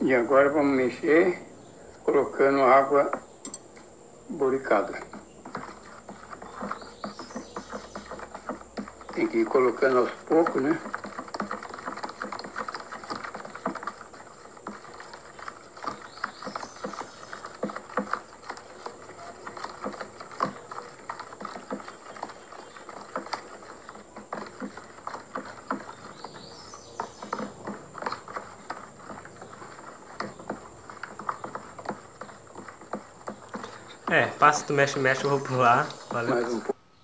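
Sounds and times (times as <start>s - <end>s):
slime being stirred: 0.0s - 36.8s.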